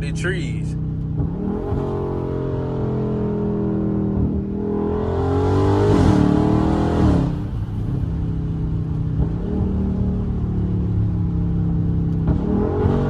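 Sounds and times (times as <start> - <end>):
car engine accelerating hard: 0.9 - 13.0.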